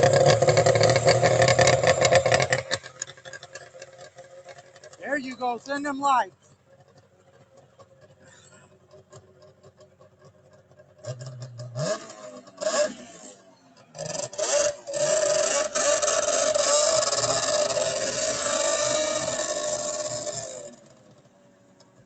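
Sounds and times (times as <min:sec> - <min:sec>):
go-kart engine revving: 0:00.0 - 0:22.0.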